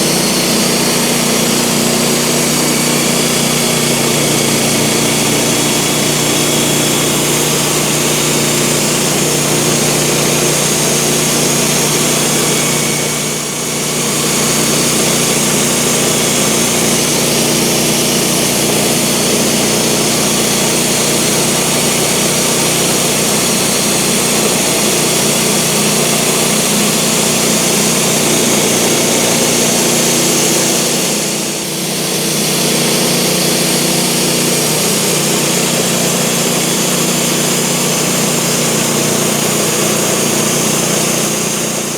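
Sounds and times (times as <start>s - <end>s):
blade sawing boards: 0.0s - 41.9s
sawmill engine running: 0.0s - 41.9s.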